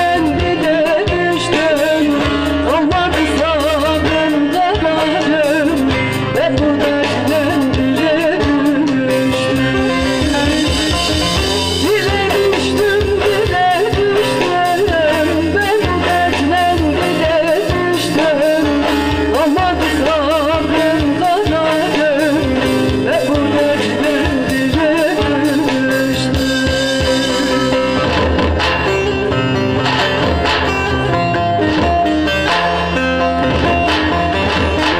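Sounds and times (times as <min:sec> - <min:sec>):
steady drum beat: 0:00.0 - 0:32.6, 0:33.4 - 0:34.9
ornamented vocal melody: 0:00.0 - 0:34.9
plucked strings: 0:00.0 - 0:34.9.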